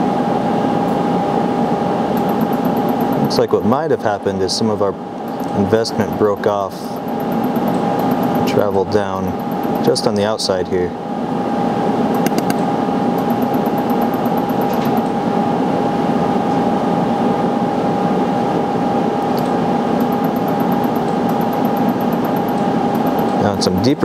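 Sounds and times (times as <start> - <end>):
cooling fan humming with whine: 0.0 - 24.0.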